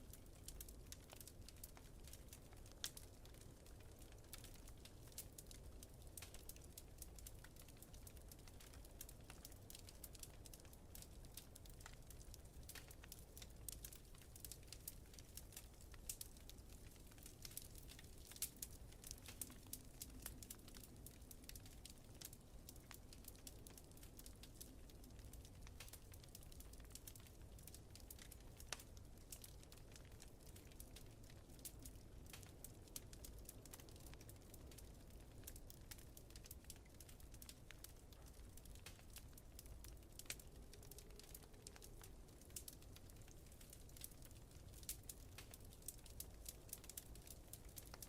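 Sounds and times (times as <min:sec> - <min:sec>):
wood fire crackling in fireplace: 0:00.0 - 0:48.0
fire low rumble: 0:00.1 - 0:48.0.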